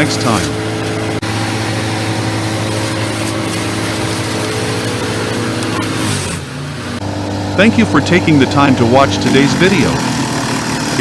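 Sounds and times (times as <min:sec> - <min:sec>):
machine engine running: 0:00.0 - 0:11.0.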